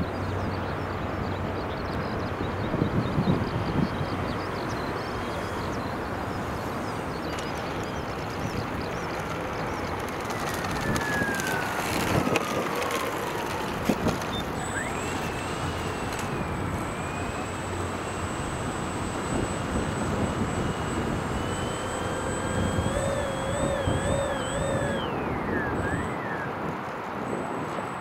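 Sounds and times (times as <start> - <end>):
model plane motors and propellers: 0.0 - 28.0
thin motor whine: 0.0 - 28.0.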